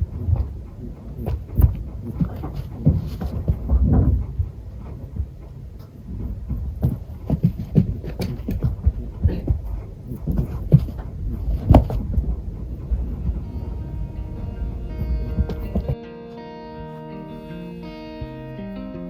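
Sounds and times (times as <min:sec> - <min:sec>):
rabbit grunting: 0:00.0 - 0:16.0.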